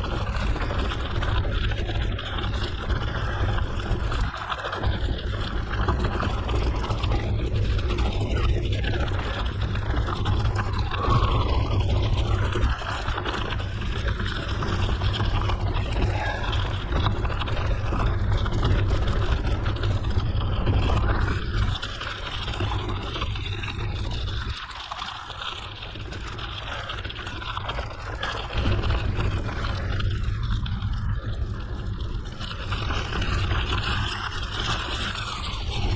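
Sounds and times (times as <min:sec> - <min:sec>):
tyres rolling over gravel: 0:00.0 - 0:35.9.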